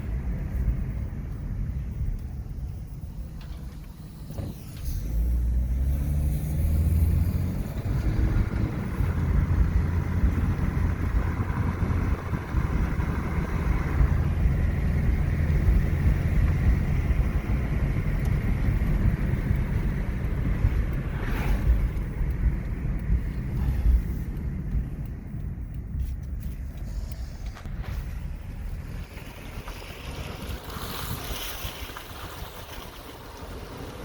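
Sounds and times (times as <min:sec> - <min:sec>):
car engine: 0:00.0 - 0:34.0.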